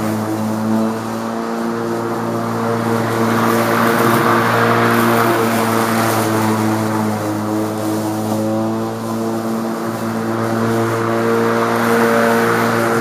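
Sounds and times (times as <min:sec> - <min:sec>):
electric lawn mower mowing: 0:00.0 - 0:13.0.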